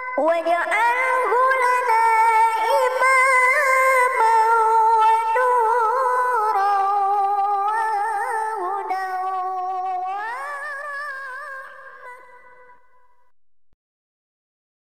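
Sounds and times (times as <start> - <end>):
high voice chanting: 0.0 - 13.3.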